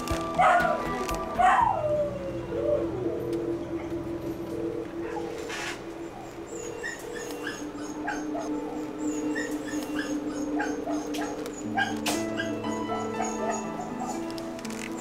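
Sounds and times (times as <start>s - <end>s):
soft music with plucked notes: 0.0s - 6.2s, 7.5s - 15.0s.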